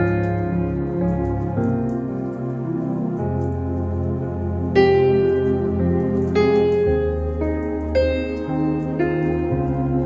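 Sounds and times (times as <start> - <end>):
slow soft keyboard music: 0.0 - 10.0.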